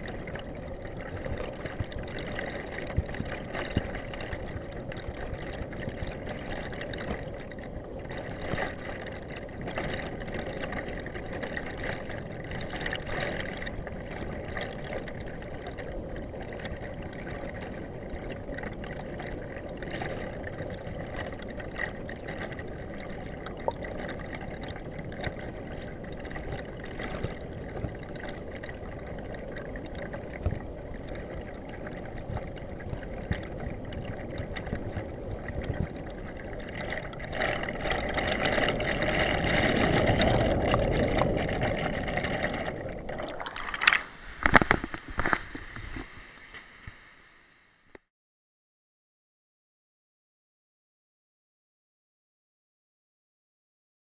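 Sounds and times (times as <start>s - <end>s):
underwater stream rushing and gurgling: 0.0s - 47.9s.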